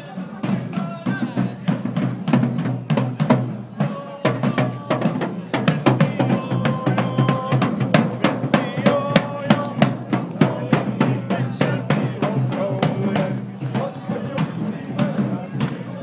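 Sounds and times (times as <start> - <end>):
marching drums beating: 0.2 - 16.0.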